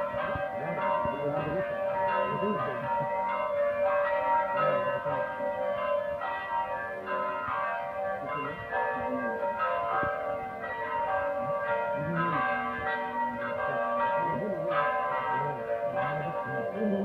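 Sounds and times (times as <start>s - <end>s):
electronic church bell tolling: 0.0s - 17.0s.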